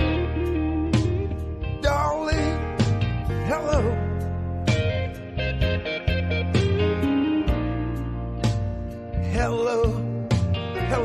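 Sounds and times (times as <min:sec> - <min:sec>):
bass: 0:00.0 - 0:11.0
drums: 0:00.0 - 0:11.0
lead electric guitar with vibrato: 0:00.0 - 0:11.0.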